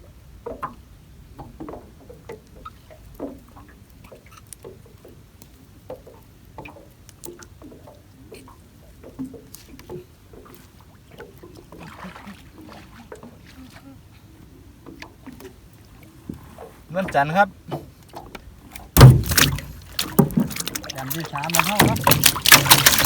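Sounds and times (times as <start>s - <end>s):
water splashes and drips: 0.4s - 14.0s, 14.7s - 23.0s.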